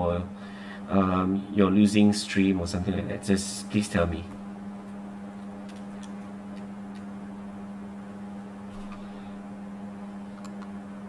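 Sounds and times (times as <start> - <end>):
low buzzing hum: 0.0 - 11.0.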